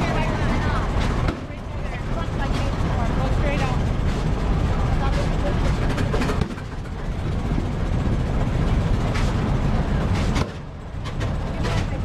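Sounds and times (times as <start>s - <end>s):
tractor engine passing: 0.0s - 12.0s.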